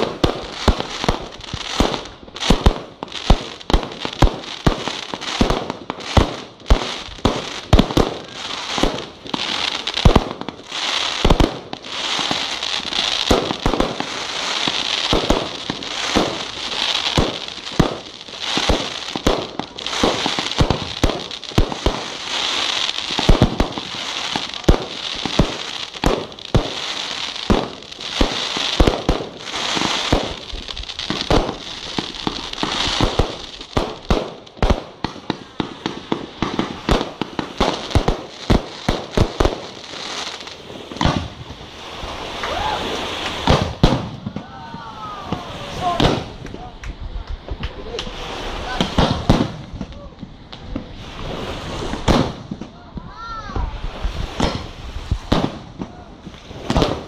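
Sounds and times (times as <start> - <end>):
continuous hiss: 0.0 - 57.0
fireworks bangs: 0.0 - 57.0.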